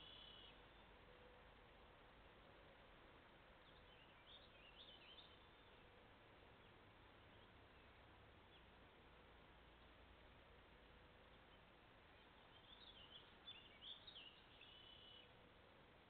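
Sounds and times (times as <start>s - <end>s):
faint steady hum: 0.0s - 16.0s
microphone hiss: 0.0s - 16.0s.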